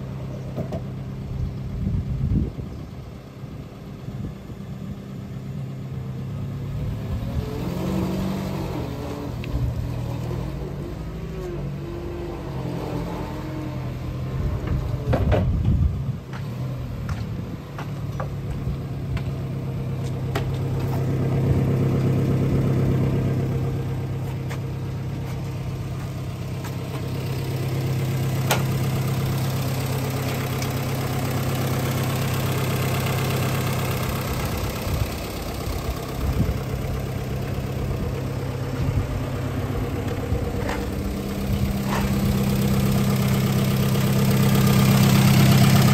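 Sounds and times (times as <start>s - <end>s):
forklift engine idling: 8.1s - 45.9s.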